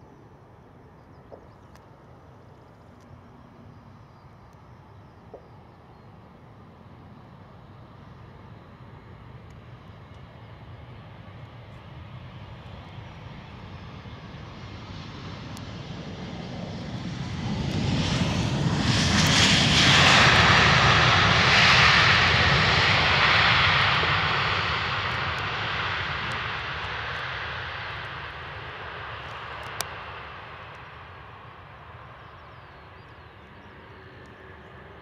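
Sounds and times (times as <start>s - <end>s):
jet engines roaring: 6.3s - 35.0s.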